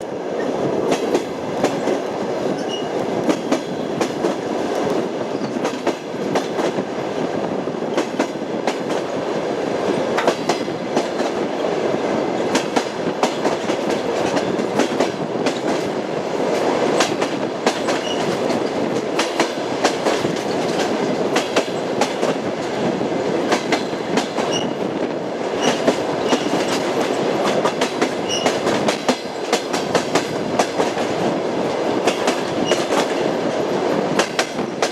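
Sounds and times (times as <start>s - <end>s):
train wheels clattering: 0.4s - 7.0s, 7.9s - 9.2s, 9.9s - 11.4s, 12.4s - 24.9s, 25.5s - 34.9s.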